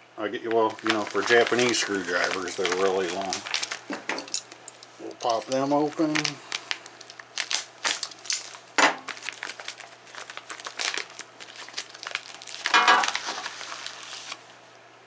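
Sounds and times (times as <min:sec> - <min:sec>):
plastic packaging crinkling: 0:00.4 - 0:14.6.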